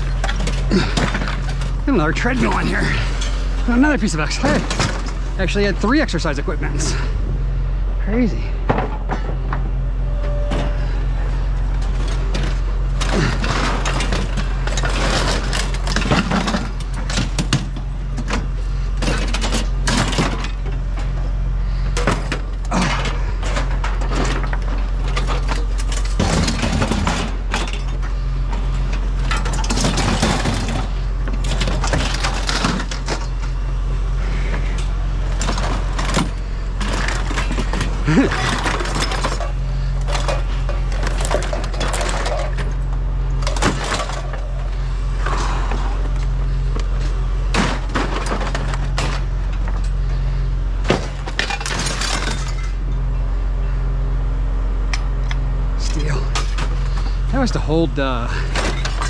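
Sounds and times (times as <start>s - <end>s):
scrap metal clanking and rattling: 0.0s - 7.3s, 8.3s - 53.0s, 54.9s - 59.0s
low engine hum: 0.0s - 59.0s.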